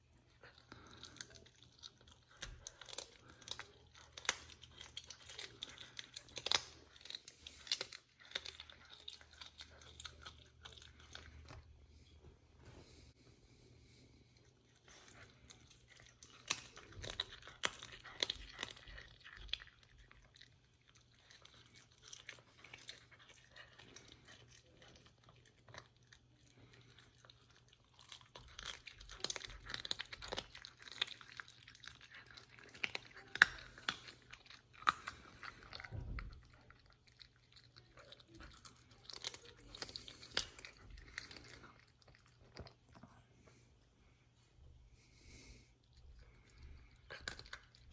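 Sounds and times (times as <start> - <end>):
animal licking and chewing meat: 0.0 - 12.2, 14.3 - 43.6.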